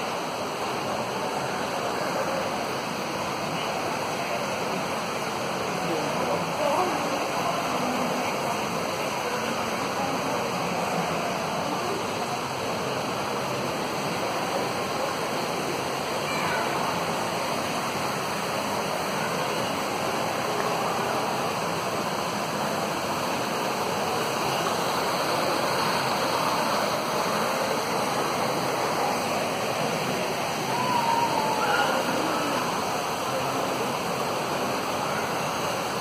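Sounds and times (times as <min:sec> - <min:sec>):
waterfall splashing: 0:00.0 - 0:36.0.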